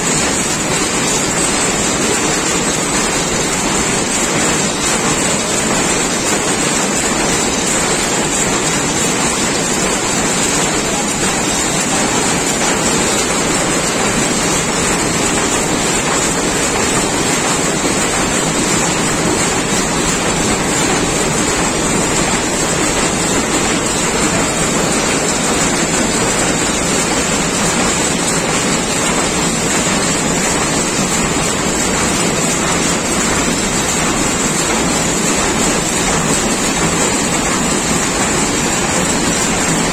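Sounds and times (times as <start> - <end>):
weaving loom clattering: 0.0 - 39.9.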